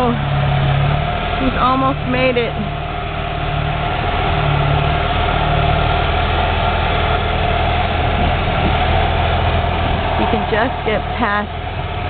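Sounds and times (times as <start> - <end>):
pickup truck engine under throttle: 0.0 - 12.0
wheels spinning on snow: 0.0 - 12.0.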